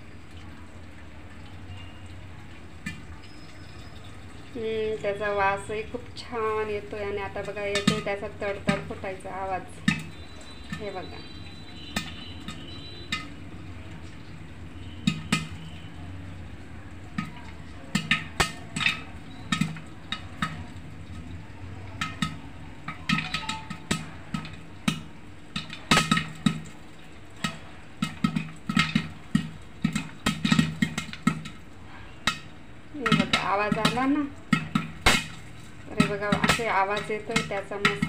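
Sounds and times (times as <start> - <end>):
popcorn popping in metal pot: 0.0 - 38.0.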